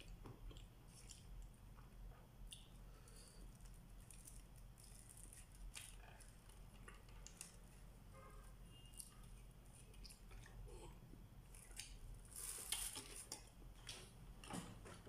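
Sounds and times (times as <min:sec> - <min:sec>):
clicks and rustles of eating: 0:00.0 - 0:07.8, 0:08.9 - 0:15.0.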